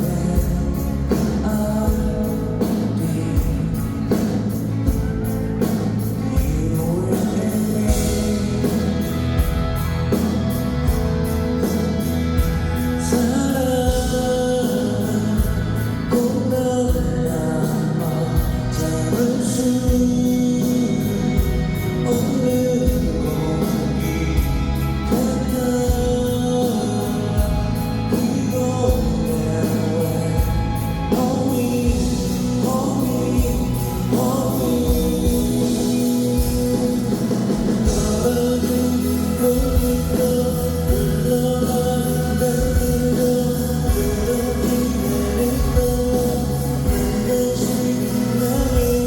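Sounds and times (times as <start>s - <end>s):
live pop-rock song: 0.0s - 49.0s
man singing: 0.0s - 49.0s
steady drum beat: 0.0s - 49.0s.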